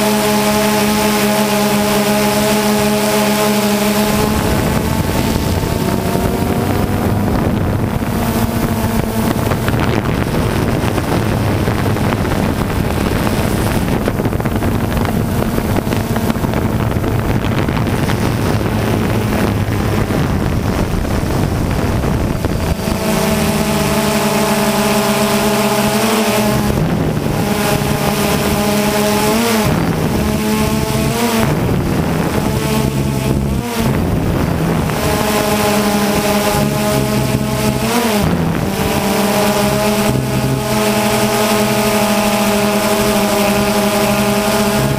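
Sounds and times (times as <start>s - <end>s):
drone motors and propellers humming: 0.0s - 44.9s
wind rushing over microphone: 0.0s - 44.9s.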